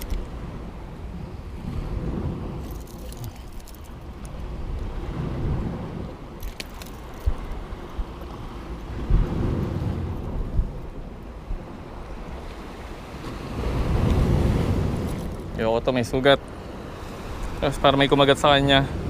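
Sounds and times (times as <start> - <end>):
rough surf against rocks: 0.0 - 19.0
wind buffeting microphone: 0.0 - 19.0.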